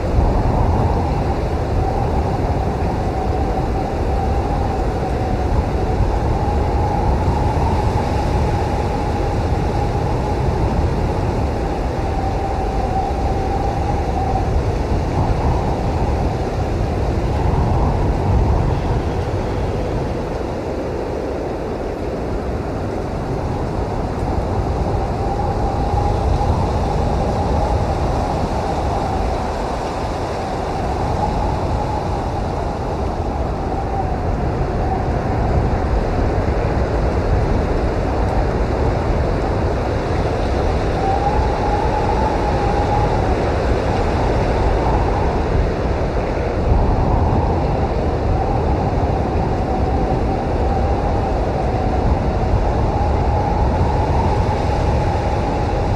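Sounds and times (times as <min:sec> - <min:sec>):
blizzard wind blowing hard: 0:00.0 - 0:55.9.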